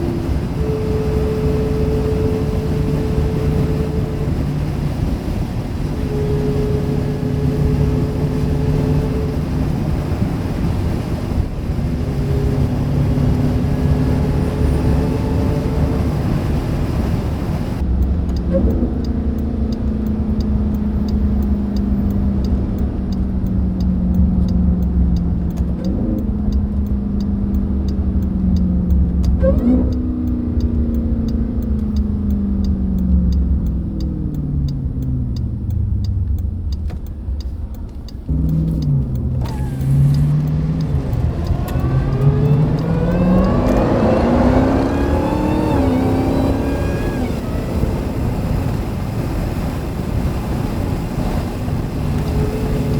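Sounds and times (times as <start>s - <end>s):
car engine accelerating: 0.0s - 52.9s
supercharger whine: 0.0s - 52.9s.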